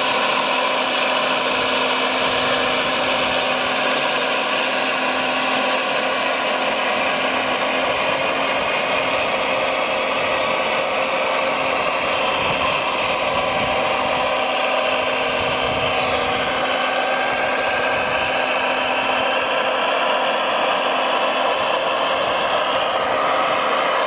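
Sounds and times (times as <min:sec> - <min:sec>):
small electric motors whining: 0:00.0 - 0:24.0.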